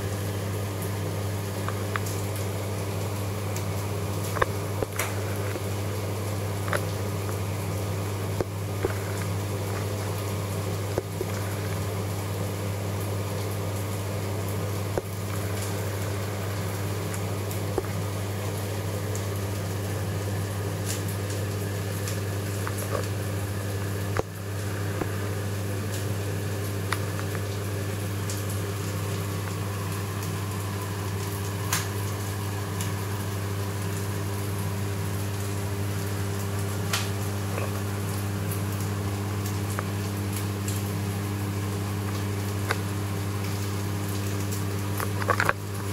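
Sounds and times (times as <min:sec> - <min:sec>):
pump hum: 0:00.0 - 0:45.9
bubbling trickling water: 0:00.7 - 0:45.9.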